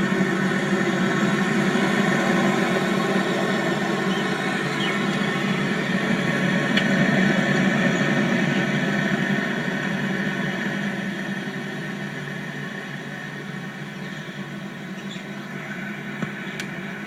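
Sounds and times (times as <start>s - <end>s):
fridge compressor humming: 0.0s - 17.0s.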